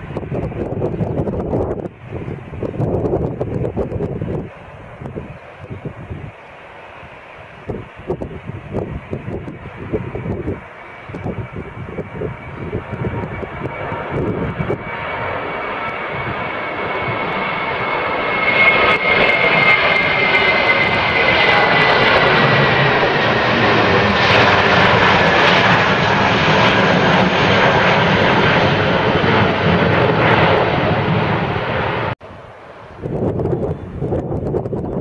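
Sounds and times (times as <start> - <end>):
jet engines roaring: 0.0 - 35.0
wind noise on microphone: 0.0 - 35.0.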